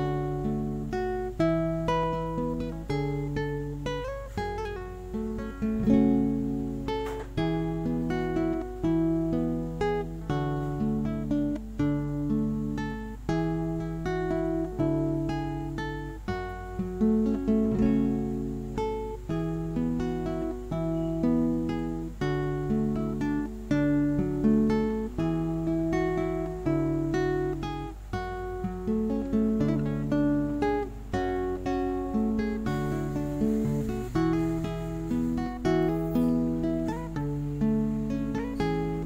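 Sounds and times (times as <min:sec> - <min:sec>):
acoustic guitar melody: 0:00.0 - 0:39.0.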